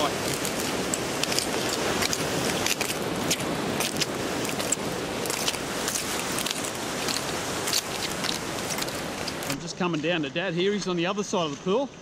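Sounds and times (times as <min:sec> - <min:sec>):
surf rushing: 0:00.0 - 0:10.3
footsteps crunching on rock: 0:00.0 - 0:11.7.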